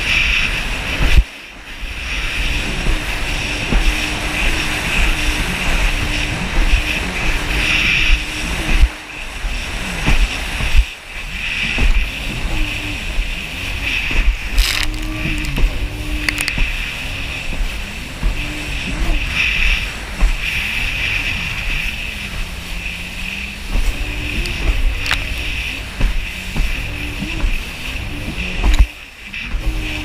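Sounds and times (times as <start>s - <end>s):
jet ski engine running: 0.0s - 30.0s
water rushing against hull: 0.0s - 30.0s
wind buffeting camera: 0.0s - 30.0s.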